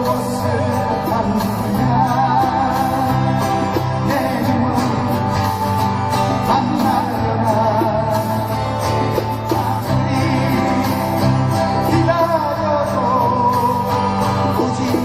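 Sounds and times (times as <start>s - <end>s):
acoustic guitar: 0.0s - 15.0s
bass: 0.0s - 15.0s
person singing: 0.0s - 15.0s.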